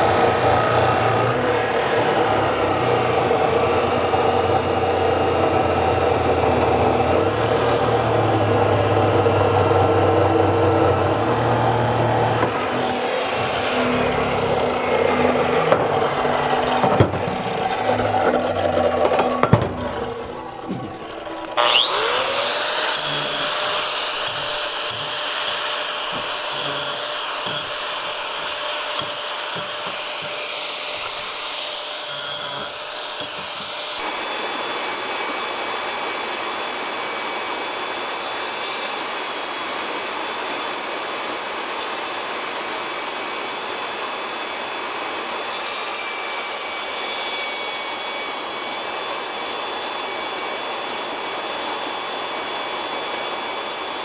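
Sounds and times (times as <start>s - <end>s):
electric grinder grinding steel: 0.0s - 54.0s.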